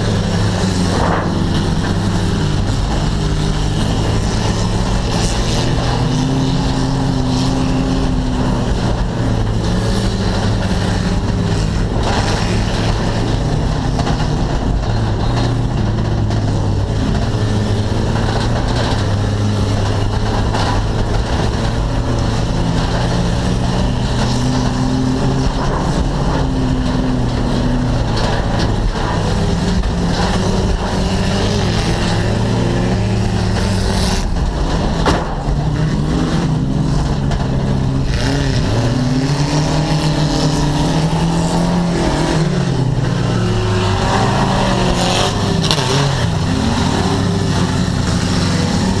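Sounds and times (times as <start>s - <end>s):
race car engine running hard: 0.0s - 49.0s.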